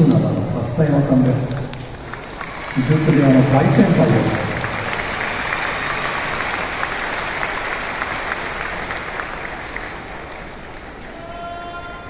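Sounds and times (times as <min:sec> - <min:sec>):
large audience applauding: 0:00.9 - 0:11.3.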